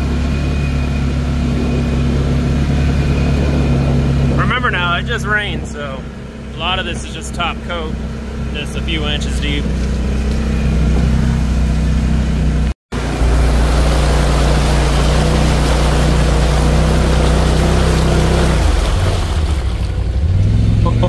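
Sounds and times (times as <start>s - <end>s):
off-road vehicle engine: 0.0s - 21.0s
tyres splashing through mud: 0.0s - 21.0s.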